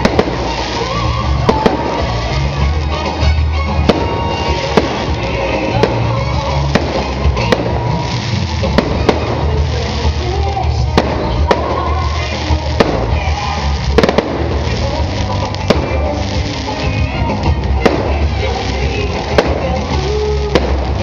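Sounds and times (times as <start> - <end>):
firework shells bursting: 0.0 - 21.0
music playing: 0.0 - 21.0.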